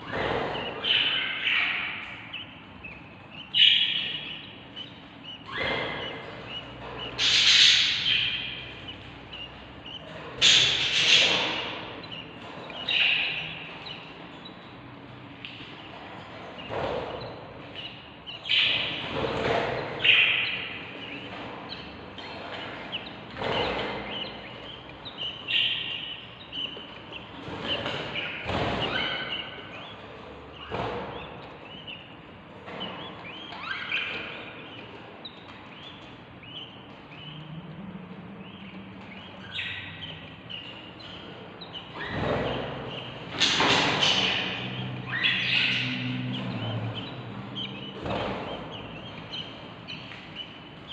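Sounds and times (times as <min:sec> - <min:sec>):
baby birds chirping: 0:00.0 - 0:50.9.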